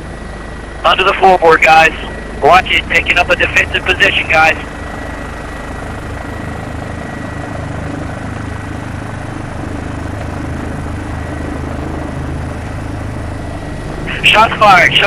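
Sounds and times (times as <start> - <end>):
helicopter engine and rotor drone: 0.0 - 15.0
thin steady whine: 0.0 - 15.0.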